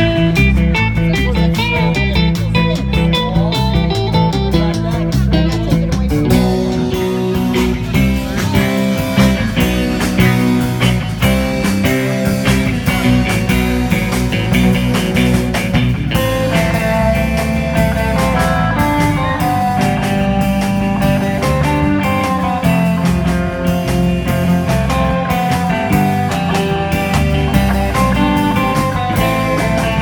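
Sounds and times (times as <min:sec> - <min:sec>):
electric guitar lead line: 0:00.0 - 0:30.0
live rock band playing: 0:00.0 - 0:30.0.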